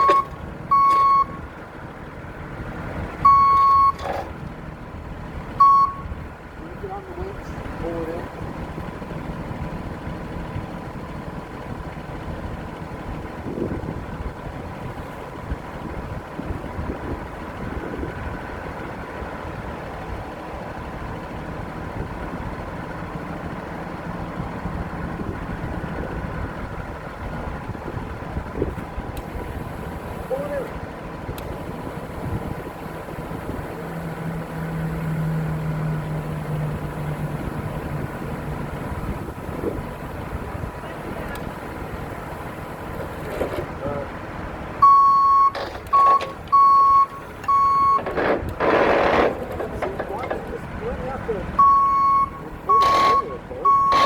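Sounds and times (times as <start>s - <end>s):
excavator engine rumbling: 0.0s - 54.0s.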